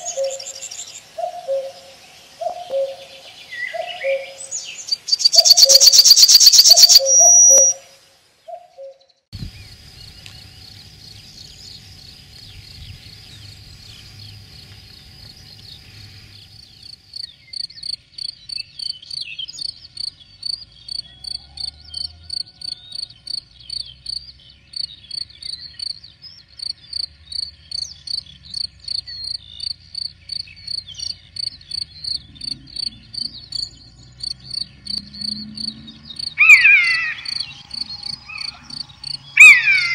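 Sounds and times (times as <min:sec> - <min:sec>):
cricket trilling and chirping: 0:00.0 - 0:39.9.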